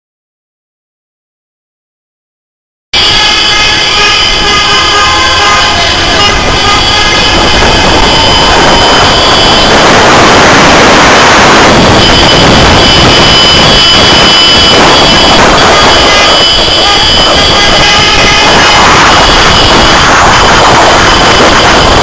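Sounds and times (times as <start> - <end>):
car and scooter horns honking: 3.0 - 22.0
street traffic noise: 3.0 - 22.0.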